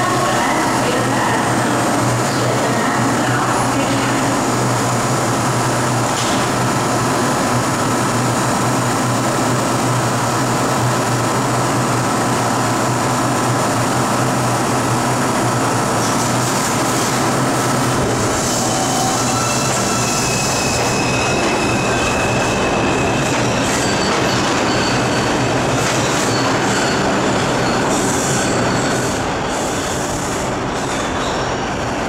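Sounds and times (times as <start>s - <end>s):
train low hum with whine: 0.0s - 32.0s.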